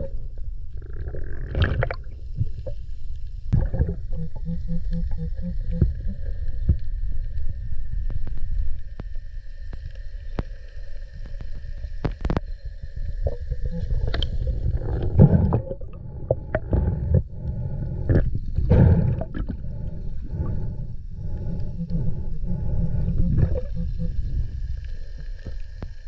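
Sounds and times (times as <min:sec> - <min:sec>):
underwater water and sand rumble: 0:00.0 - 0:26.0.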